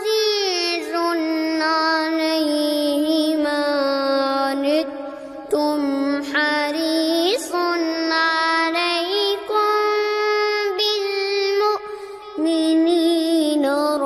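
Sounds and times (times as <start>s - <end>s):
high voice melodic recitation: 0.0s - 14.0s.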